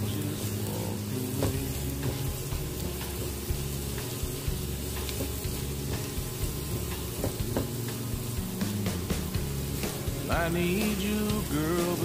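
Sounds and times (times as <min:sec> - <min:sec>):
greens sizzling in butter: 0:00.0 - 0:12.0.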